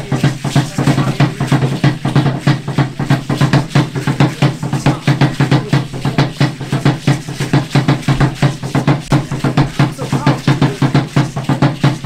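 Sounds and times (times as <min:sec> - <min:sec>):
drum beaten in quick rhythm: 0:00.0 - 0:12.0.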